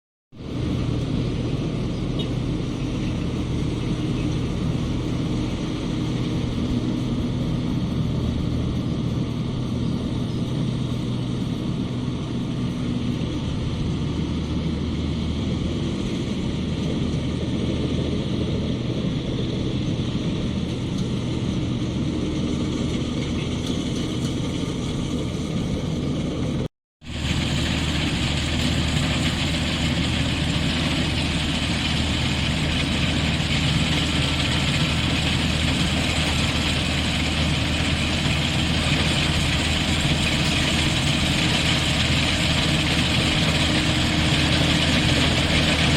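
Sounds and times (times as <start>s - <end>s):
combine harvester engine drone: 0.4s - 45.9s.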